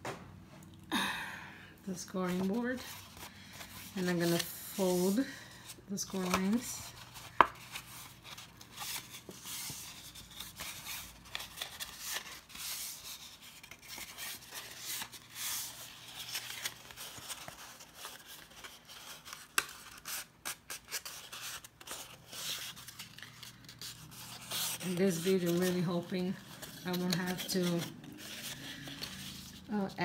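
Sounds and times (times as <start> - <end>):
card stock rubbing and crinkling: 6.0 - 30.0.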